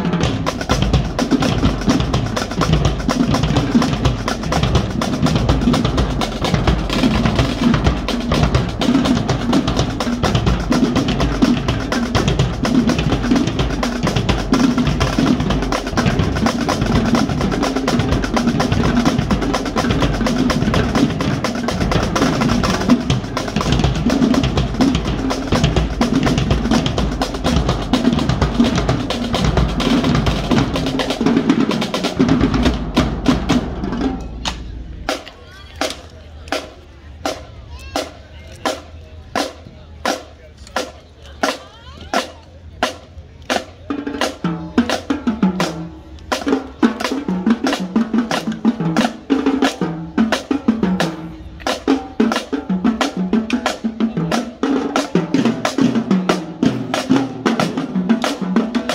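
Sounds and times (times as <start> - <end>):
fast snare drum strokes: 0.0 - 58.9
marching drumline: 0.0 - 58.9.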